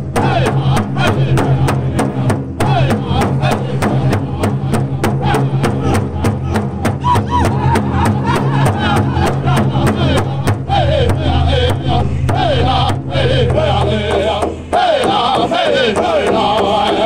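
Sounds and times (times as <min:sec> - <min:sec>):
large drum beating: 0:00.0 - 0:17.0
men singing in high voices: 0:00.0 - 0:17.0.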